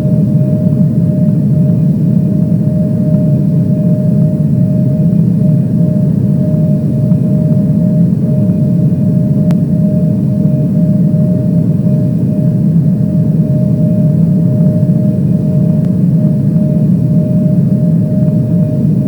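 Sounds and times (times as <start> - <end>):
airliner engine and airflow rumble: 0.0 - 19.0
steady hum tone: 0.0 - 19.0.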